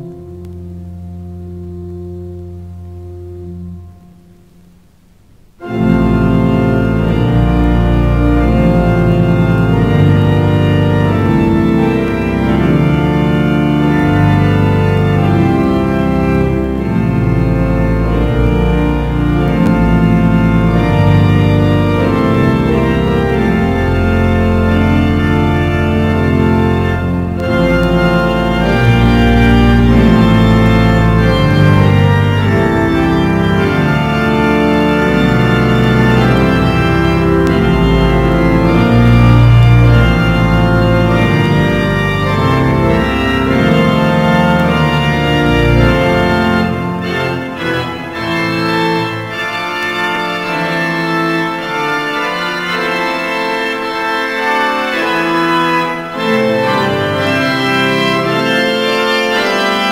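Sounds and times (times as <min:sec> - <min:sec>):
deep organ pedal bass: 0:00.0 - 0:59.9
pipe organ chords: 0:00.0 - 0:59.9.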